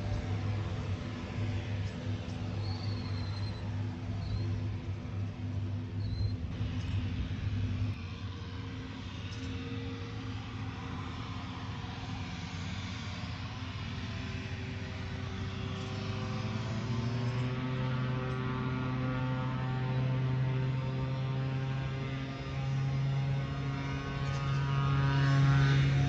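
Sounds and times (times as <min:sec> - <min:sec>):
distant turboprop engines droning: 0:00.0 - 0:26.0.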